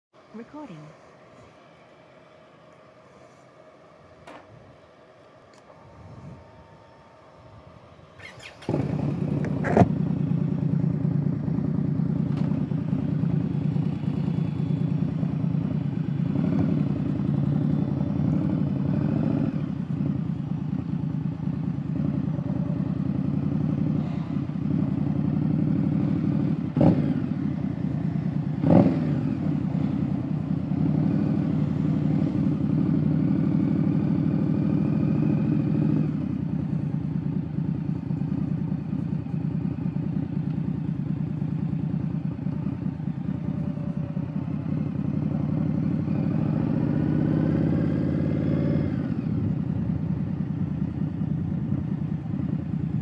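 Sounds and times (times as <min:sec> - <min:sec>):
motorcycle engine running: 0:05.6 - 0:53.0.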